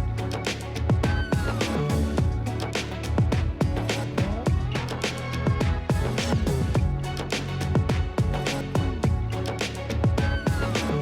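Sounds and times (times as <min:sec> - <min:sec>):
electronic music with deep drums: 0:00.0 - 0:11.0.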